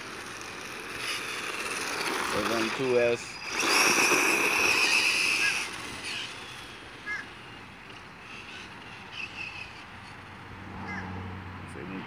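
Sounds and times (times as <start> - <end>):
toy truck motor whine: 0.0 - 10.2
outdoor background: 0.0 - 12.0.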